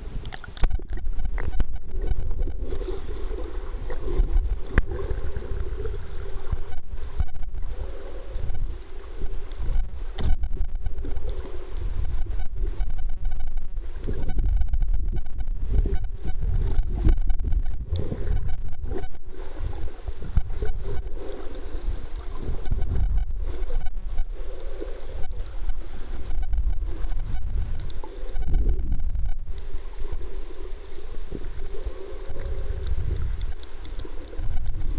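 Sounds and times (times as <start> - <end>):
underwater rumble and sloshing: 0.0 - 34.9.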